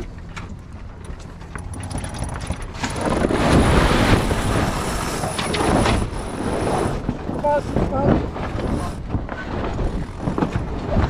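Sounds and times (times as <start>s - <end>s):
sails flapping: 0.0s - 11.0s.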